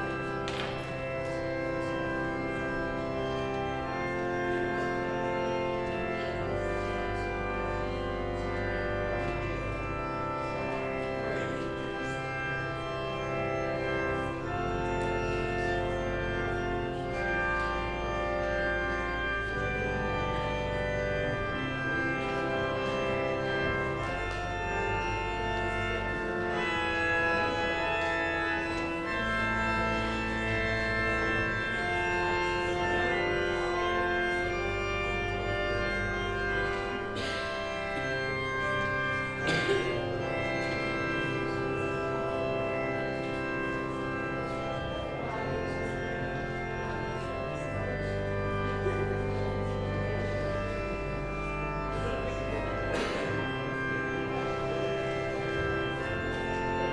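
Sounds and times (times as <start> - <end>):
church organ chords: 0.0 - 56.9.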